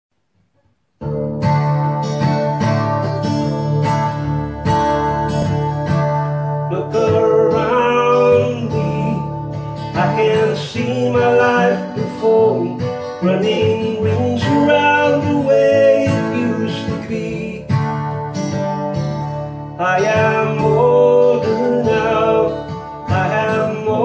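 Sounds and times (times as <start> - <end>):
acoustic guitar strumming: 0.4 - 24.0.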